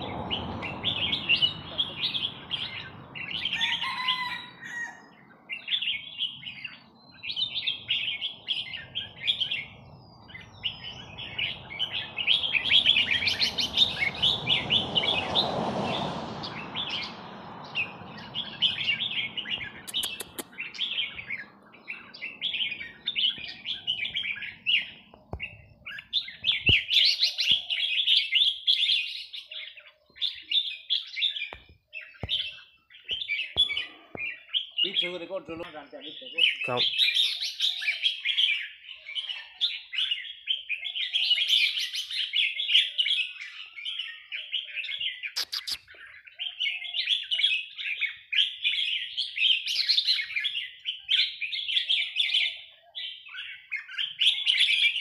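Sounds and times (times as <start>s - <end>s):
bird singing warbled phrases: 0.0s - 55.0s.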